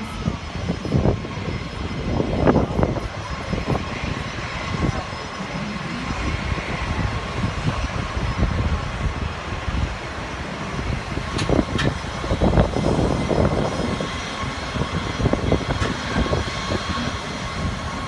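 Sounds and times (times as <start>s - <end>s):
airplane engine rumble: 0.0s - 18.0s
faint engine whine: 0.0s - 18.0s.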